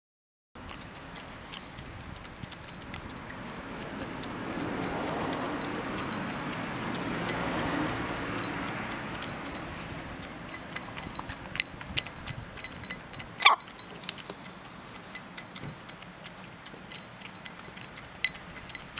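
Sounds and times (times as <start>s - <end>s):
chickens pecking at rice: 0.6s - 18.9s
broad rushing noise: 1.0s - 18.9s.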